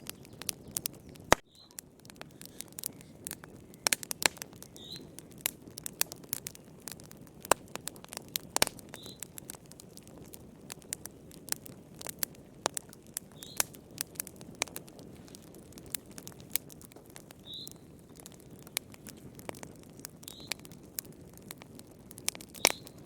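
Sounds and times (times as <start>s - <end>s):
soft hiss of flames: 0.0s - 23.0s
wood fire crackling and popping: 0.0s - 23.0s.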